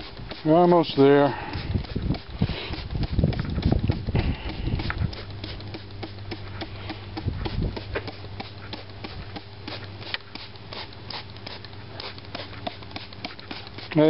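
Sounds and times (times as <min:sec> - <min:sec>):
spray bottle squirting: 0:00.0 - 0:14.0.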